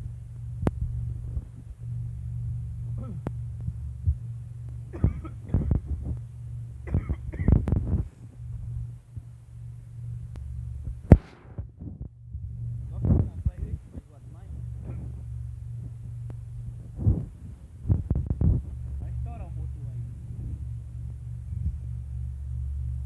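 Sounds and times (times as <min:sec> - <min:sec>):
electric fan humming and knocking: 0:00.0 - 0:23.0.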